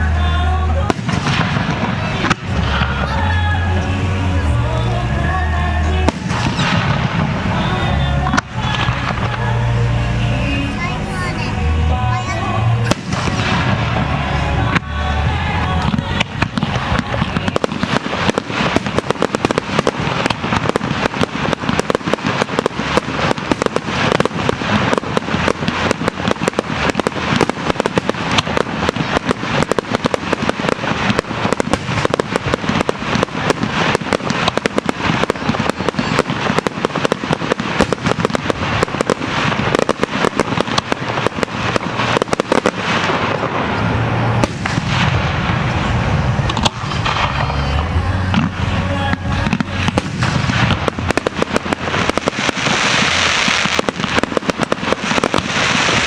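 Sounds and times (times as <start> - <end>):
deep firework booms: 0.0 - 56.0
fireworks crackling and banging: 0.0 - 56.0.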